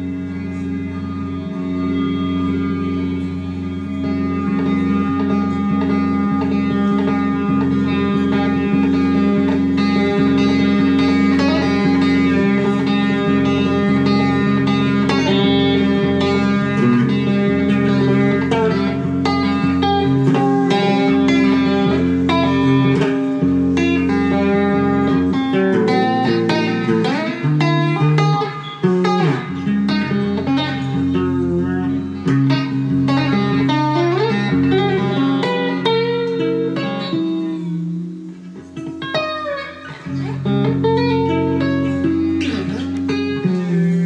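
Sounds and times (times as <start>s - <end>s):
electric guitar with reverb: 0.0s - 44.0s.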